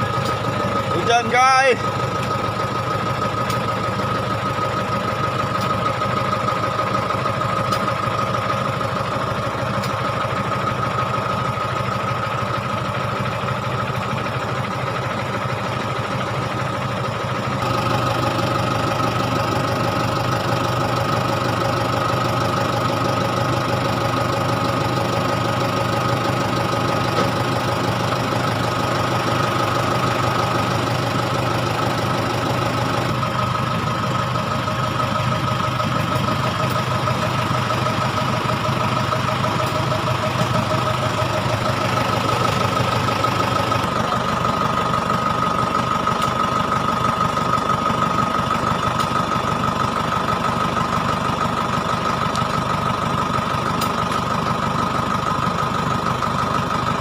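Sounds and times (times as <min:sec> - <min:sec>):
engine humming steadily: 0:00.0 - 0:57.0.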